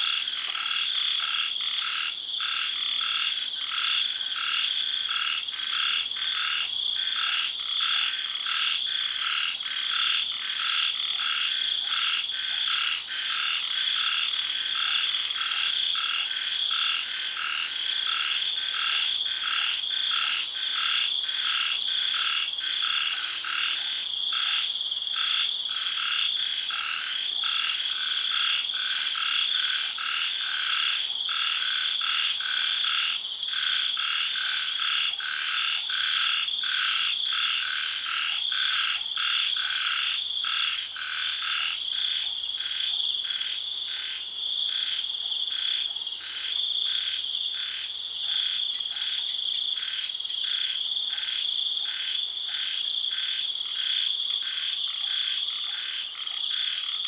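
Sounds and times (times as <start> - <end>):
cicadas droning: 0.0 - 57.0
frogs calling: 0.0 - 57.0.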